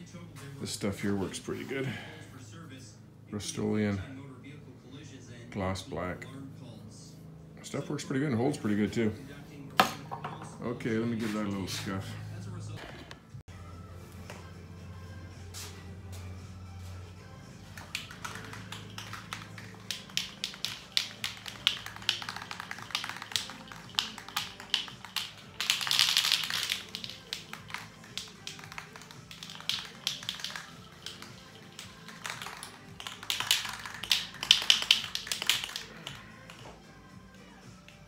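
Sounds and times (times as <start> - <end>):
background music: 7.2 - 38.0.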